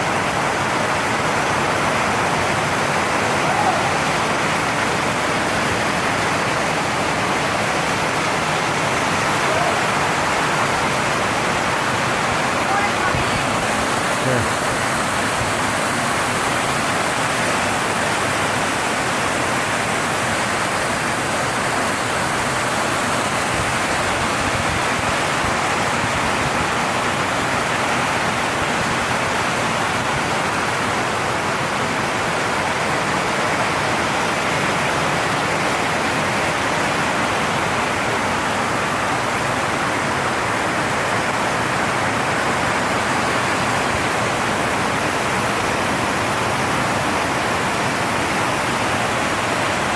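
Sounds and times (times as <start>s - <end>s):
heavy rain on a tin roof: 0.0s - 49.9s.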